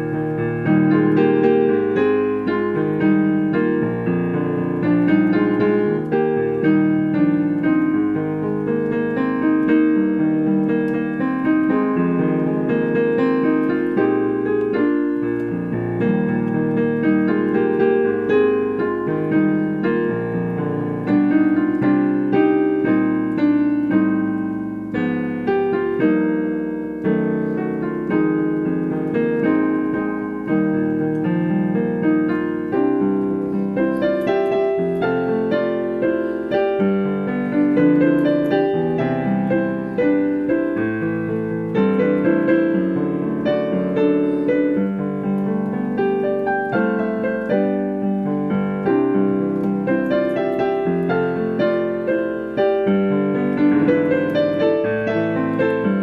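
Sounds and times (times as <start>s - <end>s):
solo piano music: 0.0s - 56.0s.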